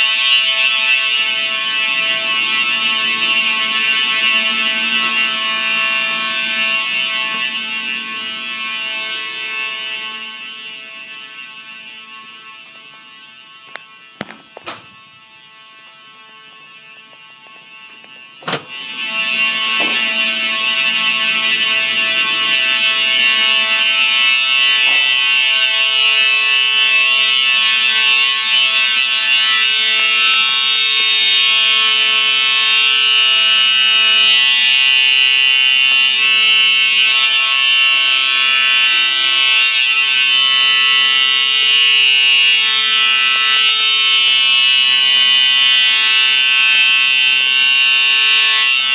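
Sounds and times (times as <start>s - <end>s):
fire alarm sounding: 0.0s - 48.9s.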